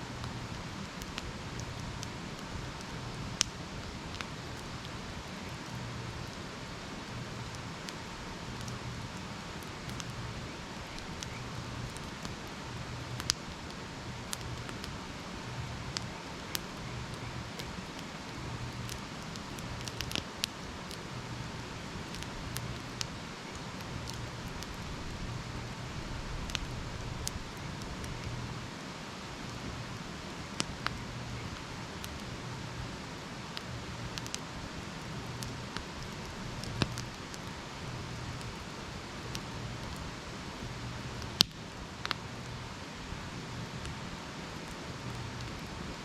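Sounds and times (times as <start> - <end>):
campfire hiss: 0.0 - 46.0
campfire crackling and popping: 0.1 - 46.0.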